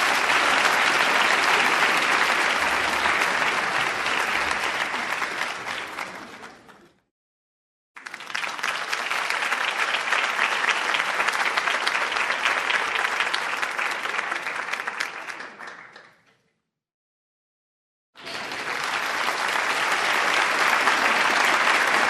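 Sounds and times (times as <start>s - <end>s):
audience applause: 0.0s - 7.0s, 8.0s - 16.3s, 18.2s - 22.0s.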